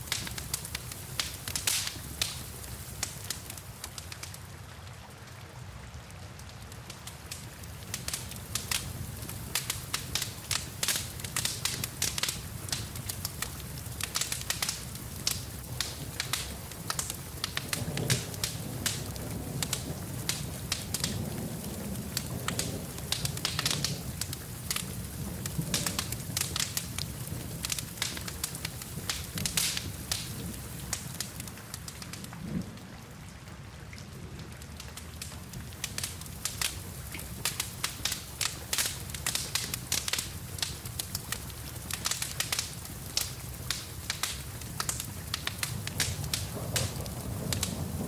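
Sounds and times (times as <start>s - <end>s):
fireplace fire crackling: 0.0s - 48.0s
rain falling: 0.0s - 48.0s.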